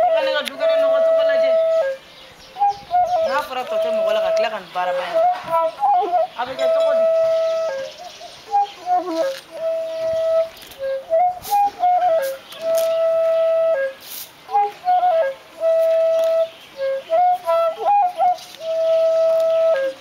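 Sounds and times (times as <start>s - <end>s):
solo flute melody: 0.0s - 20.0s.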